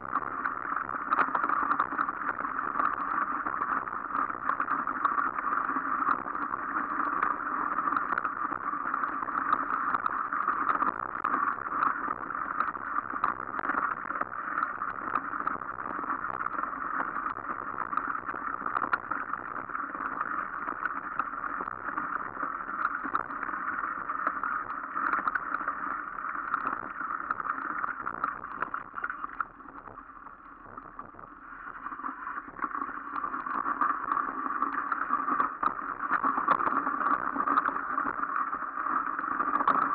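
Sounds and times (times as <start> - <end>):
small rattles and clicks: 0.1 - 30.1, 30.8 - 39.9.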